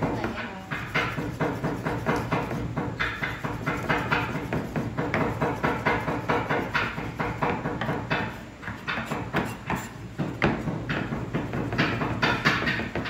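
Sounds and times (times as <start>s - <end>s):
knife chopping on wooden board: 0.0s - 13.0s.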